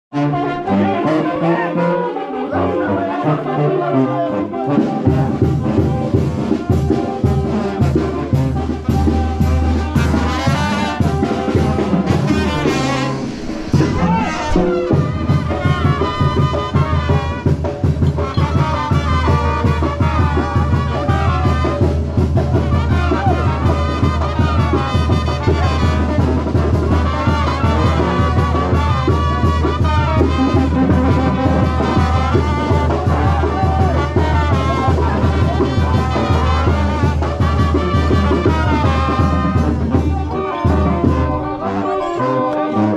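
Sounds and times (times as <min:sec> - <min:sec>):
brass band playing: 0:00.1 - 0:42.9
drum beat: 0:05.2 - 0:41.4.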